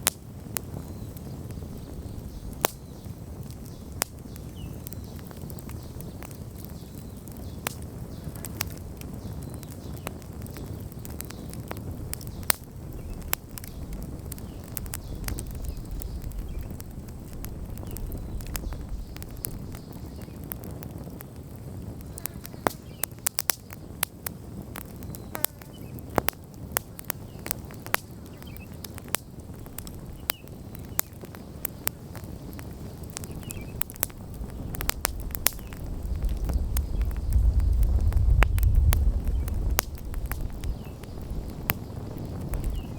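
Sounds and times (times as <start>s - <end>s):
burning wood crackling and popping: 0.0s - 42.9s
low rumble of flames: 0.0s - 42.9s.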